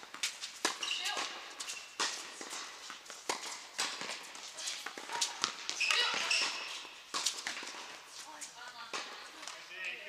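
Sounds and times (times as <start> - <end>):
tennis ball impacts: 0.0 - 8.1, 8.7 - 9.6.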